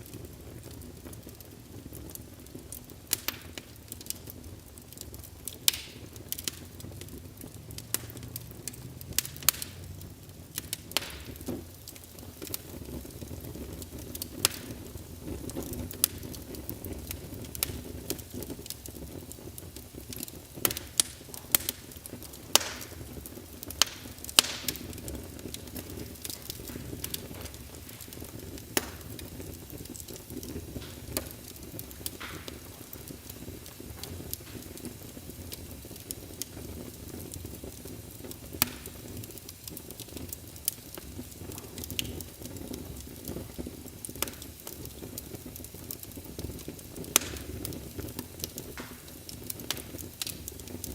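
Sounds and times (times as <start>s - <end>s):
fire crackling and popping: 0.0s - 50.9s
low rumble of flames: 0.0s - 50.9s.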